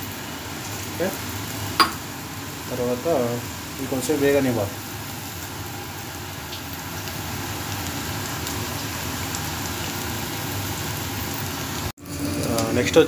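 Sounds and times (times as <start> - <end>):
vegetables sizzling in a pot: 0.0 - 13.0.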